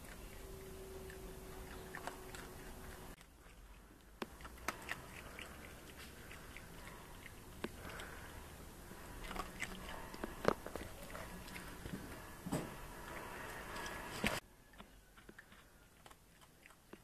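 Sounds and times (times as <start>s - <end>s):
animal chewing food: 0.0s - 17.0s
faint steady hum: 0.0s - 17.0s.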